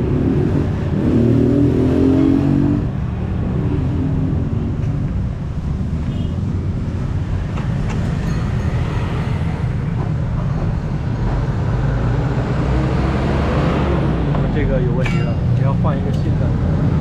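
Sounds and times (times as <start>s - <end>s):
low rumble of vehicle engines: 0.0s - 17.0s.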